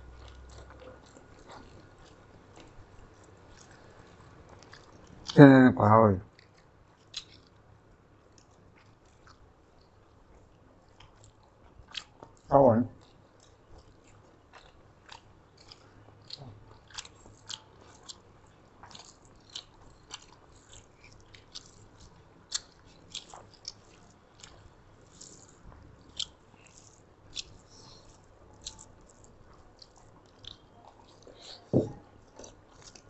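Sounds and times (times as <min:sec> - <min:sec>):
quiet chewing: 0:00.0 - 0:05.4, 0:06.3 - 0:33.0.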